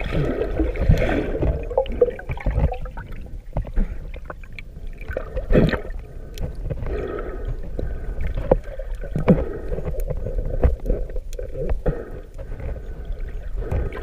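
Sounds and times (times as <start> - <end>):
muffled underwater water rumble: 0.0 - 14.0.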